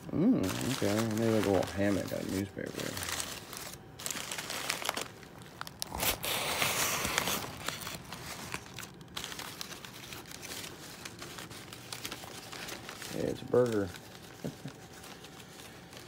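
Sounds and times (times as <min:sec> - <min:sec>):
newspaper crinkling and rustling: 0:00.0 - 0:16.0.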